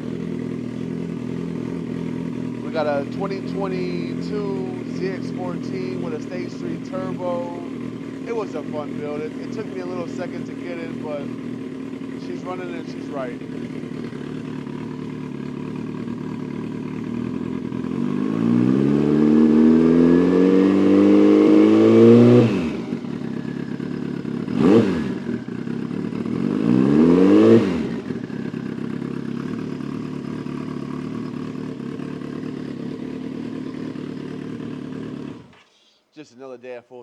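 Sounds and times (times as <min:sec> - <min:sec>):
motorcycle engine idling and revving: 0:00.0 - 0:35.7.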